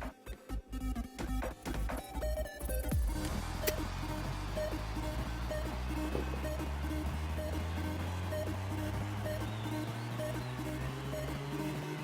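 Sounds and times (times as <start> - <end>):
electronic music with bass line: 0.0 - 12.0.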